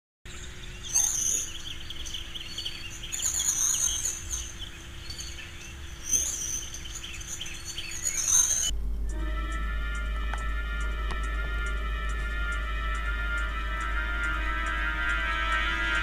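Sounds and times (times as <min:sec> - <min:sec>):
birds chirping and twittering: 0:00.3 - 0:16.0
faint steady hum: 0:00.3 - 0:16.0.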